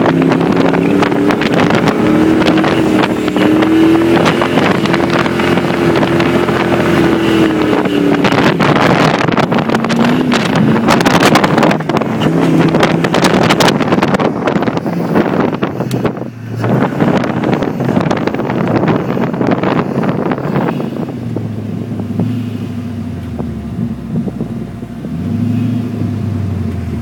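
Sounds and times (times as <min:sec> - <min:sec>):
wind buffeting microphone: 0:00.0 - 0:22.3
jeep engine running hard: 0:00.0 - 0:27.0.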